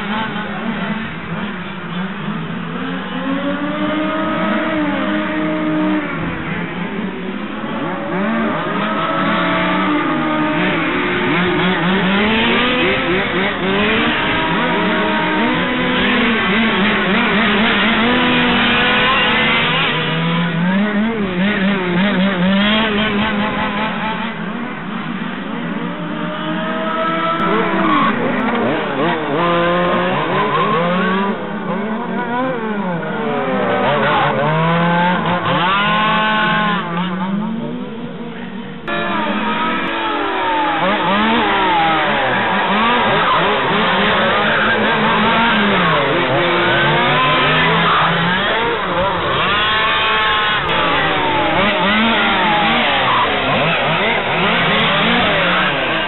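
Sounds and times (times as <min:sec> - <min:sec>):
small two-stroke engines buzzing: 0:00.0 - 0:56.0.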